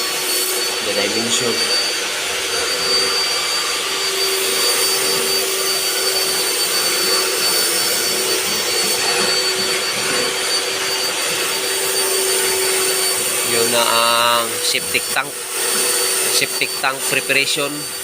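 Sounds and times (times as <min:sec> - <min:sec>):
motor drone with high whine: 0:00.0 - 0:18.0.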